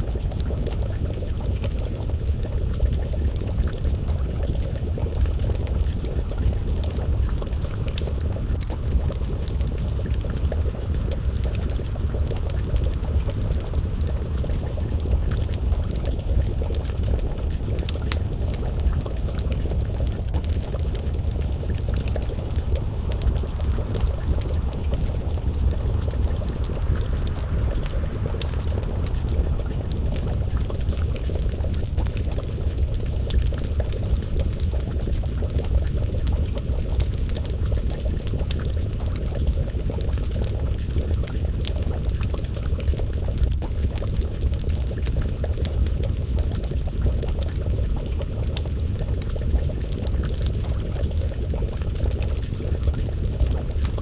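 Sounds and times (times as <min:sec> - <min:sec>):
burning logs crackling: 0:00.0 - 0:54.0
stew bubbling in pot: 0:00.0 - 0:54.0.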